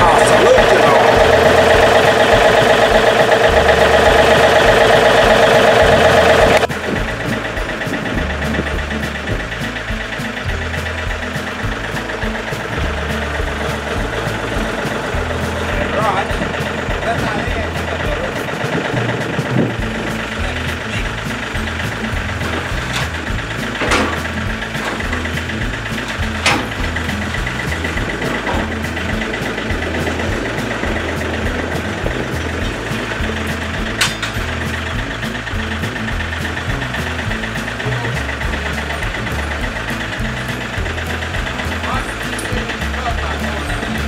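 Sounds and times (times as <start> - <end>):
diesel engine idling: 0.0 - 44.0
regular engine tick: 0.0 - 44.0.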